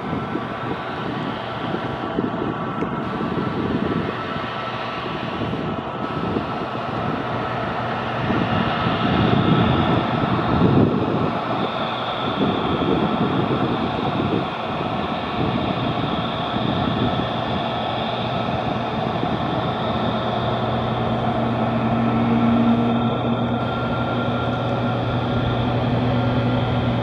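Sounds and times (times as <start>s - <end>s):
jet engine rush: 0.0s - 27.0s
steady high whine: 0.0s - 27.0s.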